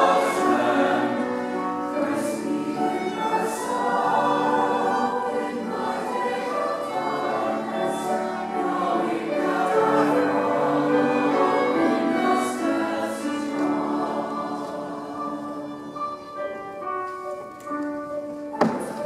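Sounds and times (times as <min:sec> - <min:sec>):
mixed choir singing: 0:00.0 - 0:16.4
piano: 0:00.0 - 0:19.0
violin: 0:00.0 - 0:19.0.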